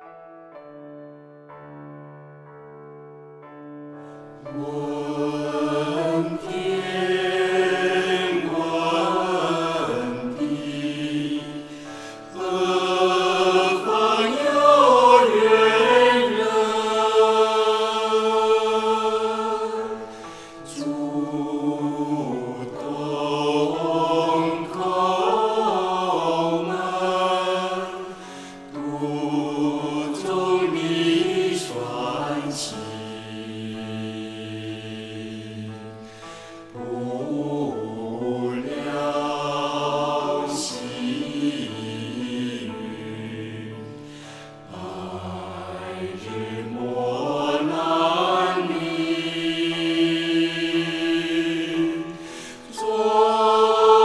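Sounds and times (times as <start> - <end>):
person singing devotional song: 4.5 - 54.0.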